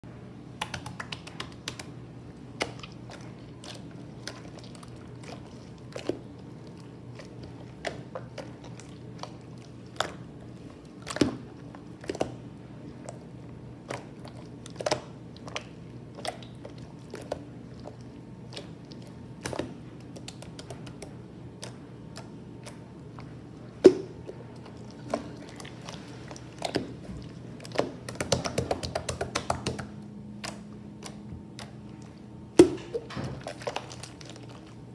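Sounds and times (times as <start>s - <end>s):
hands squishing slime: 0.5s - 34.9s.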